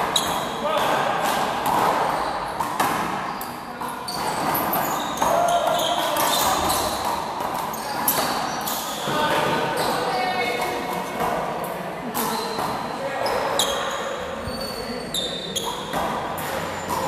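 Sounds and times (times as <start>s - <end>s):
sneakers squeaking: 0.0s - 17.0s.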